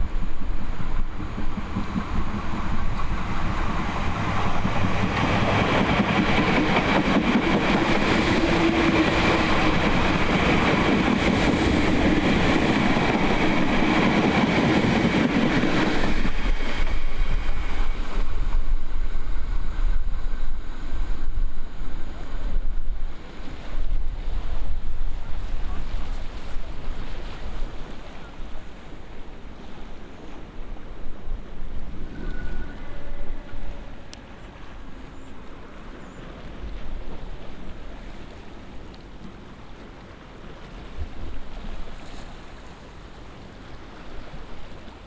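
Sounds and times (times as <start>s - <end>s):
train wheels rushing on rail: 0.0s - 45.0s
wind buffeting microphone: 0.0s - 45.0s.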